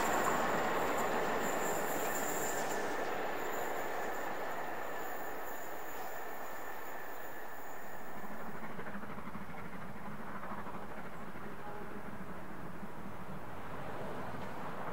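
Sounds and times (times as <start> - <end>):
train carriages rumbling: 0.0 - 14.9.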